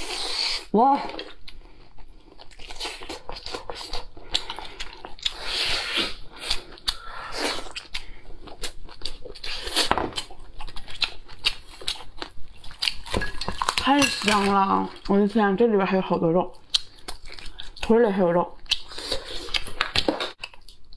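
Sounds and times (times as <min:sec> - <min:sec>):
person chewing: 0:00.0 - 0:15.1, 0:16.5 - 0:17.9, 0:18.6 - 0:20.9.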